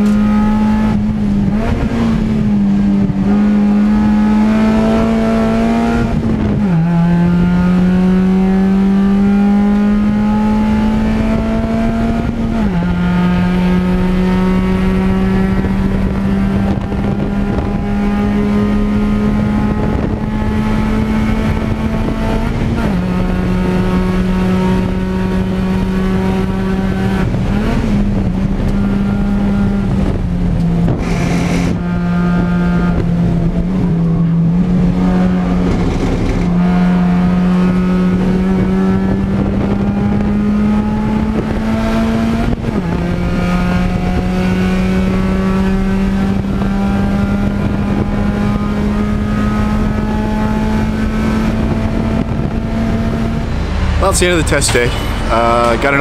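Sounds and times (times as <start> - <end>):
race car engine at high revs: 0.0 - 56.0
road and wind noise: 0.0 - 56.0.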